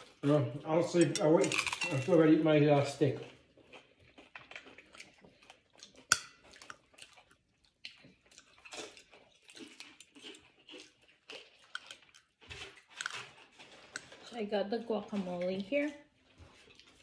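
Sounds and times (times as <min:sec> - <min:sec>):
chewing crunchy chips: 0:00.0 - 0:17.0.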